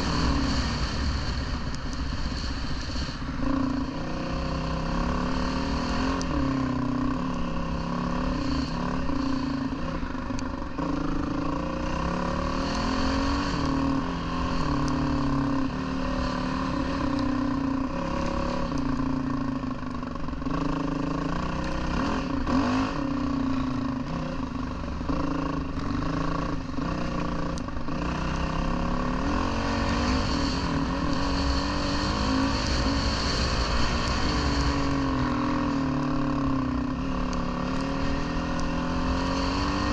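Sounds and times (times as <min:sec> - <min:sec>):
dirt bike engine revving: 0:02.2 - 0:19.1, 0:20.4 - 0:39.9.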